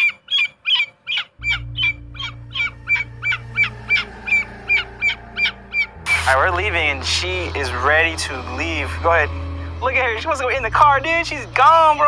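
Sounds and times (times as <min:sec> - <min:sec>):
cockatoo harsh calls: 0:00.0 - 0:10.4
steady low hum: 0:01.4 - 0:12.0.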